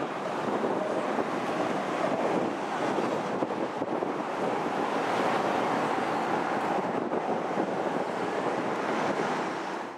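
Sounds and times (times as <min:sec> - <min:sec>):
jet engines rushing overhead: 0:00.0 - 0:09.9.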